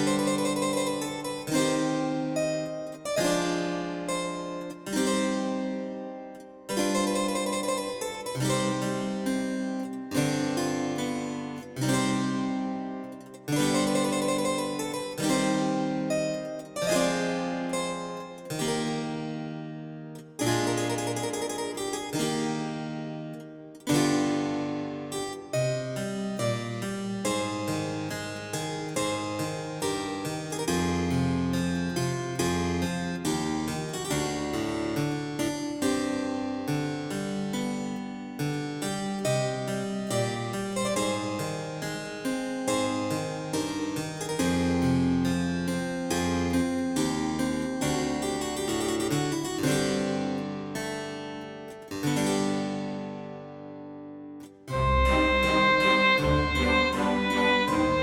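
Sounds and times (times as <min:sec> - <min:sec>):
harpsichord chords: 0:00.0 - 0:58.0.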